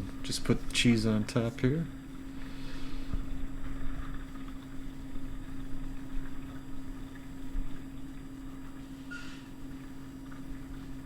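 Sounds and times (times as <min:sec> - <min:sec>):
fan motor hum: 0:00.0 - 0:11.0.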